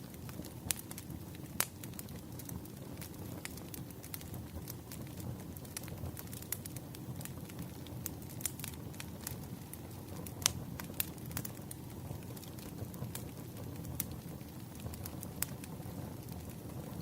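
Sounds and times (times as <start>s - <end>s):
low rumble of flames: 0.0s - 17.0s
wood fire crackling: 0.0s - 17.0s
sharp pops of fire: 0.1s - 17.0s.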